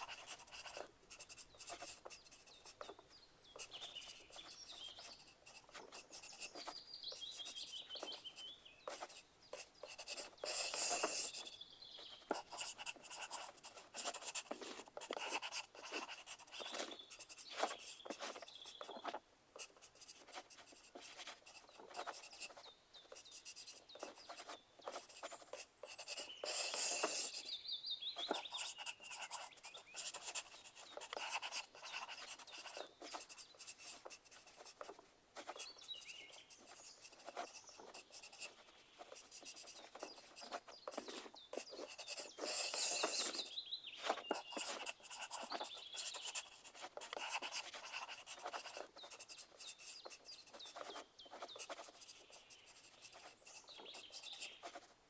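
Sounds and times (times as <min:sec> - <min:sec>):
pencil writing on paper: 0:00.0 - 0:27.6, 0:28.2 - 0:54.9.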